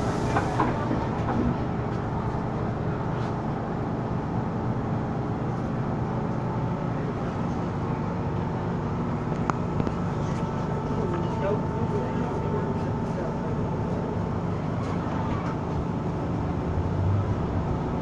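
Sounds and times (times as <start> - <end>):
train cabin rumble: 0.0 - 18.0.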